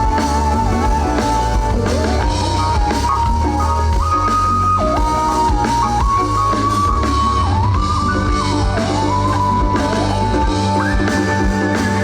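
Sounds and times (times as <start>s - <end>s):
bass guitar: 0.0s - 12.0s
drum kit: 0.0s - 12.0s
sliding lead melody: 0.0s - 12.0s.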